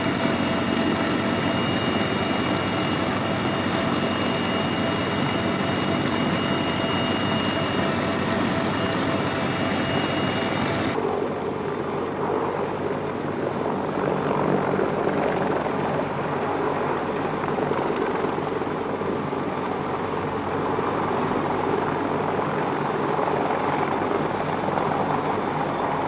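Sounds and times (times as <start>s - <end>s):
helicopter hovering drone: 0.0s - 26.0s.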